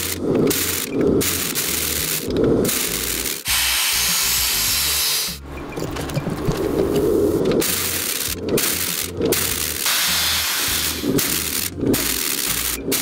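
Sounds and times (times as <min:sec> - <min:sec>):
cut-off wheel grinding steel: 0:00.0 - 0:13.0.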